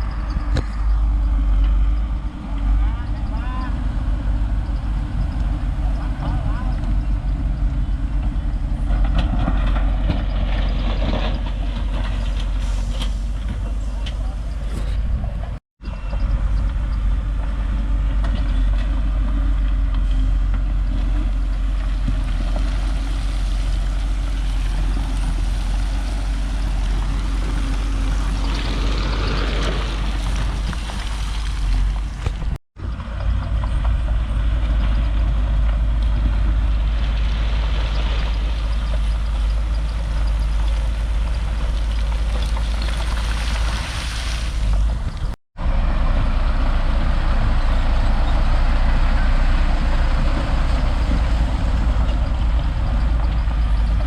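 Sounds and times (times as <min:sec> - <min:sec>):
heavy diesel machinery running: 0:00.0 - 0:43.1, 0:44.6 - 0:54.0.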